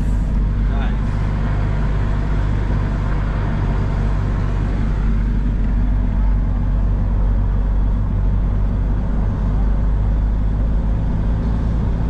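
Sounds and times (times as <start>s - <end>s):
road and tyre noise: 0.0s - 12.0s
vehicle engine running: 0.0s - 12.0s.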